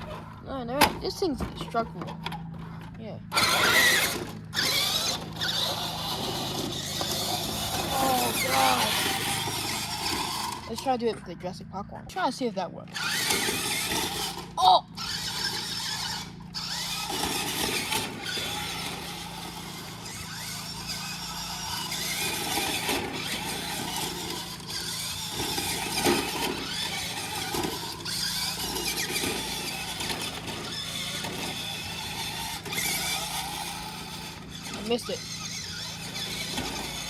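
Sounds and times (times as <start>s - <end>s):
toy truck motor whining: 0.0s - 37.0s.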